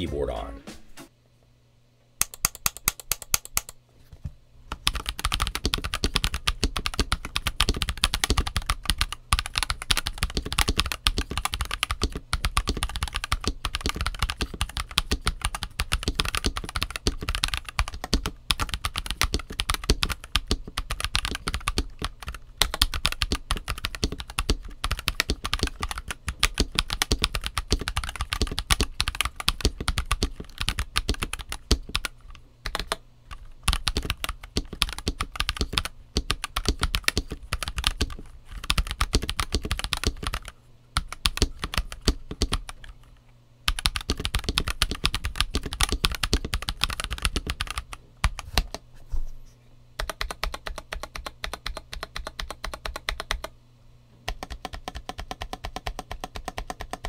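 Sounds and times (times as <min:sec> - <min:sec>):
mechanical keyboard typing: 0:02.2 - 0:03.8, 0:04.7 - 0:43.0, 0:43.7 - 0:48.8, 0:50.0 - 0:53.5, 0:54.3 - 0:57.0.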